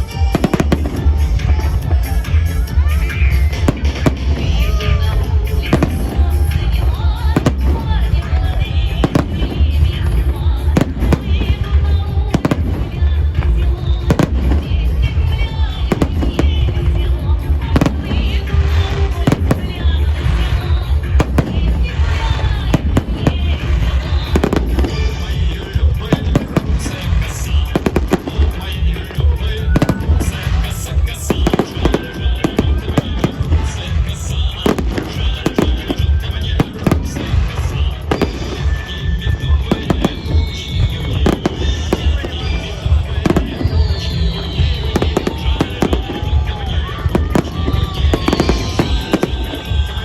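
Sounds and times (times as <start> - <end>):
fireworks bangs: 0.0 - 50.0
music playing: 0.0 - 50.0.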